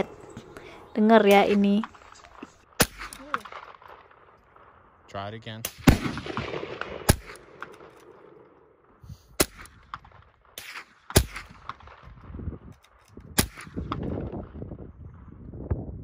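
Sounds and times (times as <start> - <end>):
quiet gunshots: 0.0 - 12.2, 13.4 - 14.5.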